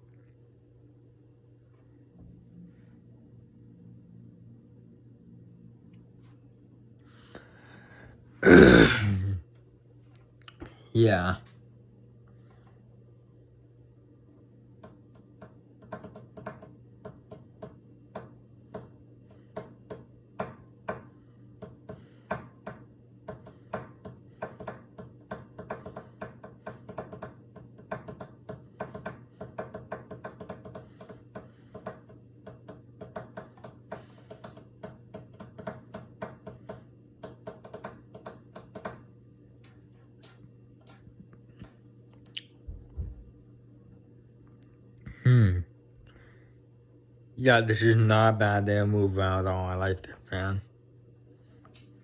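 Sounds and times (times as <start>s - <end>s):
ceiling fan motor humming: 0.0s - 52.0s.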